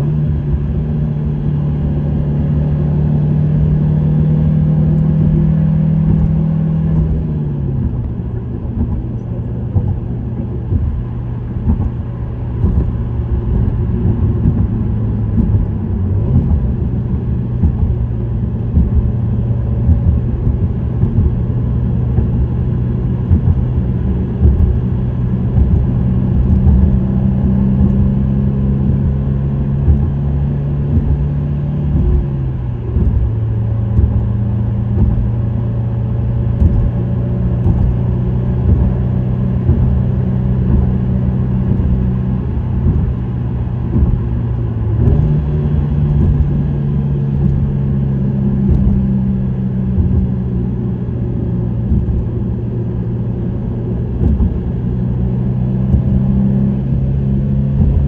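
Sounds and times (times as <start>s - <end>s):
car exhaust drone: 0.0s - 58.0s
road noise: 0.0s - 58.0s.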